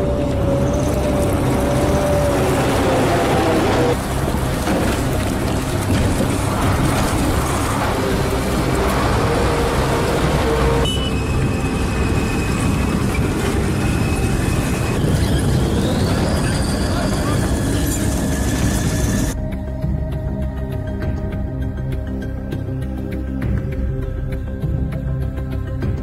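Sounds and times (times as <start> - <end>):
armoured vehicle engines: 0.0 - 26.0.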